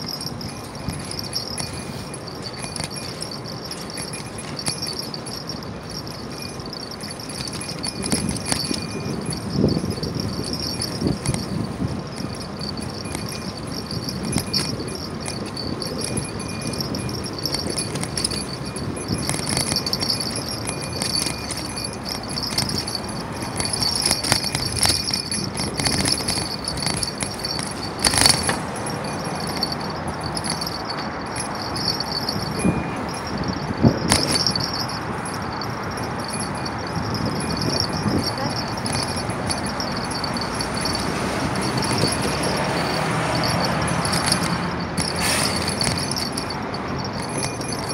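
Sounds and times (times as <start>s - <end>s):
bicycle road noise: 0.0s - 47.9s
metallic jingling rattle: 0.0s - 47.9s.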